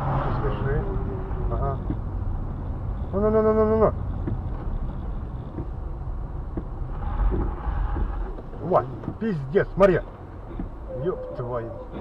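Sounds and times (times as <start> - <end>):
vehicle driving rumble: 0.0 - 12.0.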